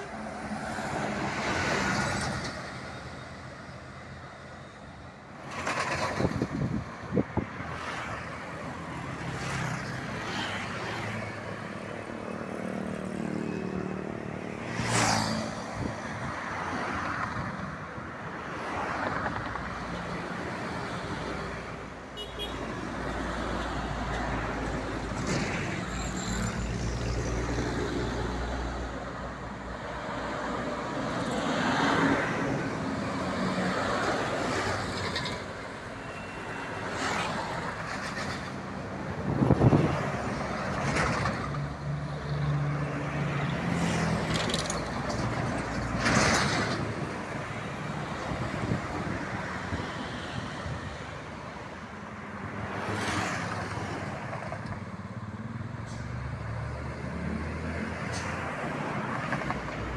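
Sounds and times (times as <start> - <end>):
highway traffic passing: 0.0 - 59.9.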